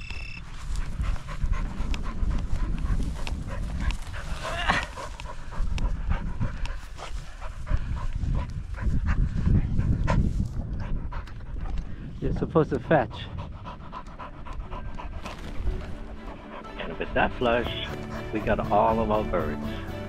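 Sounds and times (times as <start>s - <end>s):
low rumble: 0.0s - 18.4s
dog panting: 0.5s - 20.0s.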